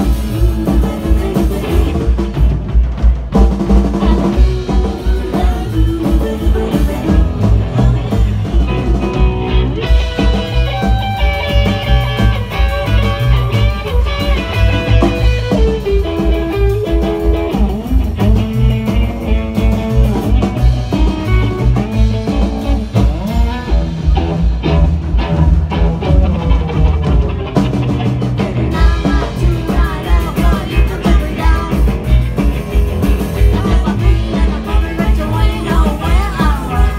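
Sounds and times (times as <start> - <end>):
driving drum-kit beat: 0.0 - 36.9
electric guitars: 0.0 - 36.9.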